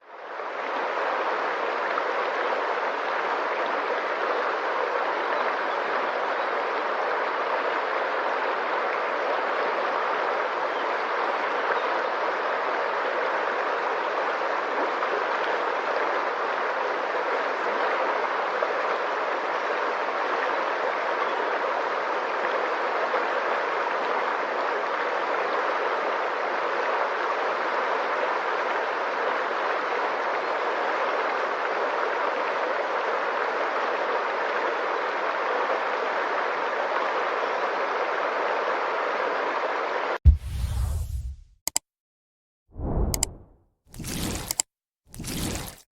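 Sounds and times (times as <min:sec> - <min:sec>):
stream water flowing: 0:00.0 - 0:40.2, 0:42.8 - 0:45.8.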